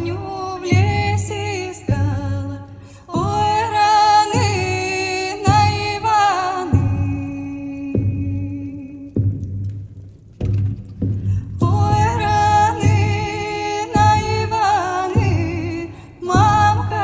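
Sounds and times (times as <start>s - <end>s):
woman singing folk song: 0.0s - 9.4s, 11.2s - 17.0s
frame drum beat: 0.0s - 17.0s.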